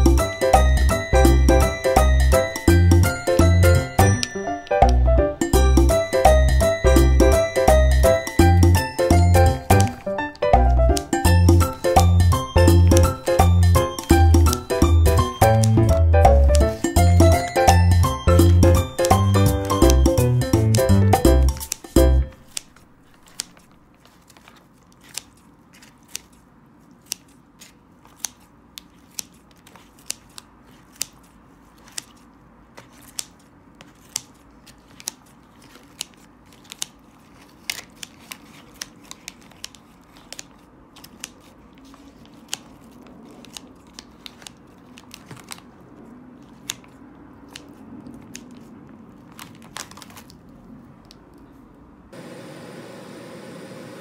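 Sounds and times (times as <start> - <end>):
scissors snipping: 1.6 - 6.6, 7.2 - 48.7.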